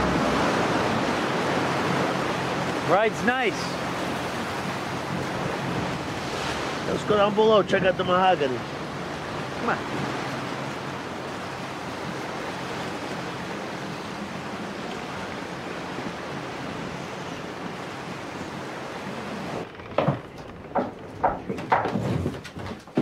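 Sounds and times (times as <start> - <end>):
wind and water rushing: 0.0 - 22.4.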